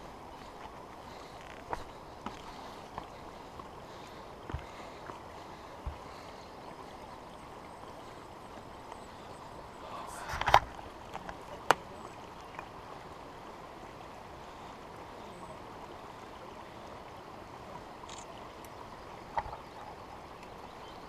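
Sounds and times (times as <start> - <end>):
flowing water: 0.0 - 21.0.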